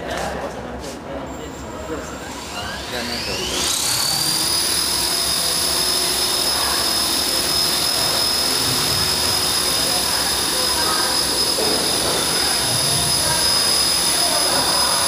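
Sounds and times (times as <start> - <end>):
rc helicopter rotor whine: 1.7 - 15.0.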